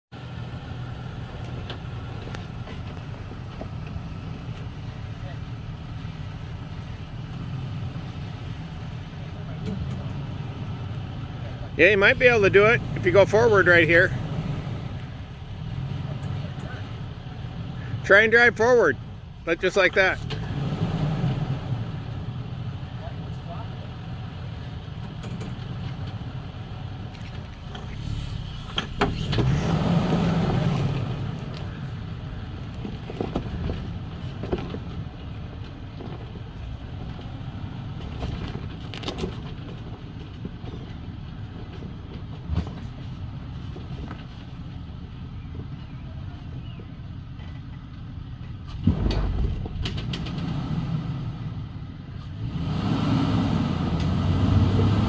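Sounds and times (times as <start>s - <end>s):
truck engine revving: 0.1s - 40.0s, 48.7s - 55.0s.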